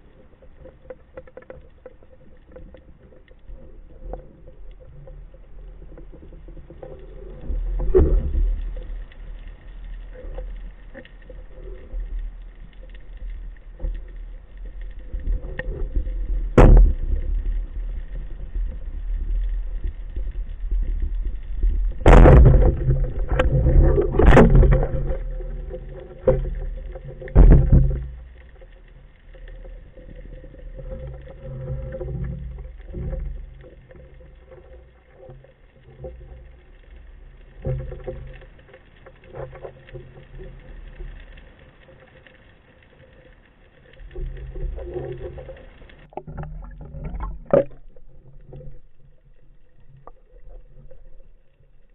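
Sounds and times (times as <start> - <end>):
muffled underwater water surges: 0.0 - 51.9.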